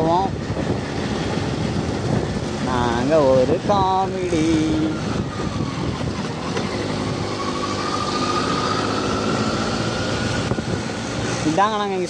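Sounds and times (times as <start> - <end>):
motorcycle riding: 0.0 - 12.0
wind noise on microphone: 0.0 - 12.0.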